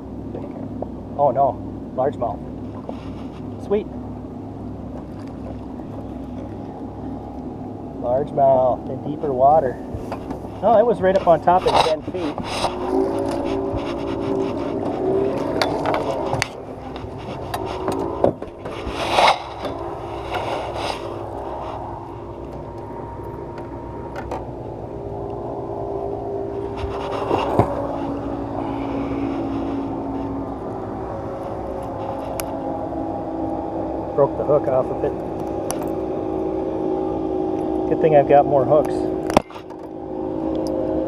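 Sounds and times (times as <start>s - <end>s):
steady low hum: 0.0s - 41.0s
fish and net scraping on boat hull: 2.5s - 8.5s, 9.1s - 37.6s.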